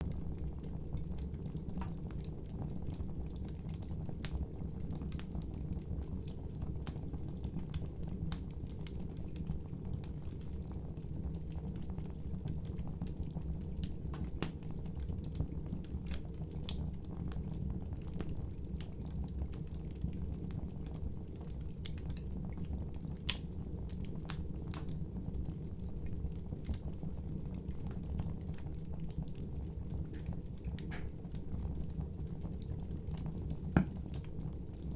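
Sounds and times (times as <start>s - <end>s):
fire popping: 0.0s - 34.9s
wood fire crackling: 0.0s - 34.9s.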